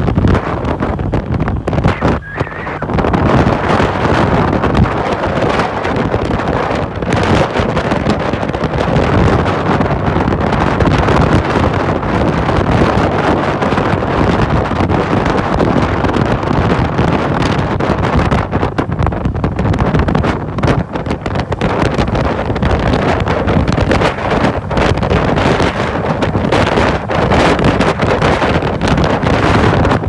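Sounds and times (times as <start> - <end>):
road noise: 0.0 - 30.0
wind buffeting microphone: 0.0 - 30.0.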